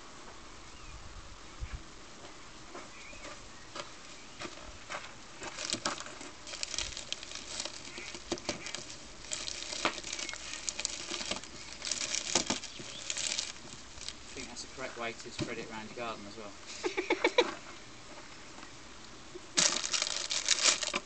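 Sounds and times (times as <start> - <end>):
rustling and crackling: 2.2 - 21.0.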